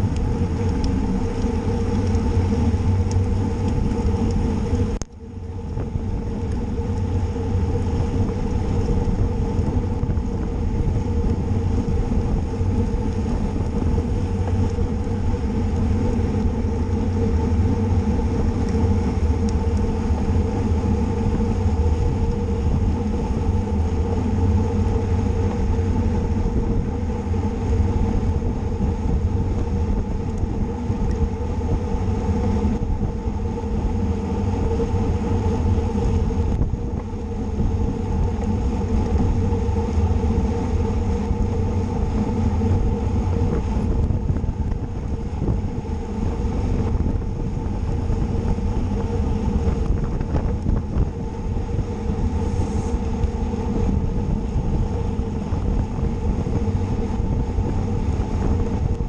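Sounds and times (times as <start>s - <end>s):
faint steady hum: 0.0s - 59.0s
wind and road noise: 0.0s - 59.0s.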